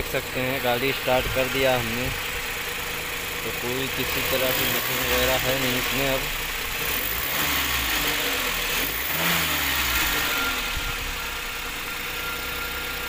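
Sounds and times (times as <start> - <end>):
petrol engine idling: 0.0 - 8.9, 9.6 - 13.0.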